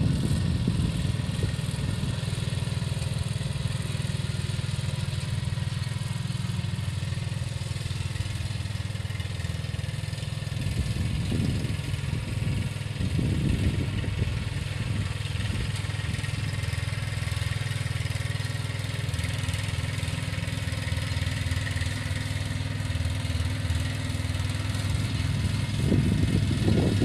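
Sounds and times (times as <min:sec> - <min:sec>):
ride-on lawn mower engine: 0:00.0 - 0:27.0.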